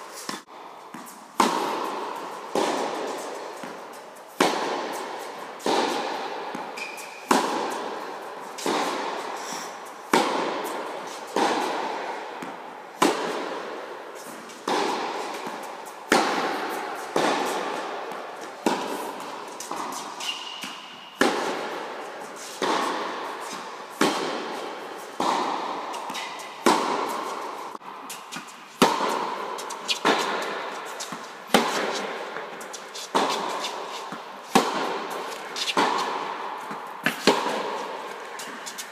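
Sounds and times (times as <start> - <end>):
tennis ball hit by racket: 0.1 - 38.9.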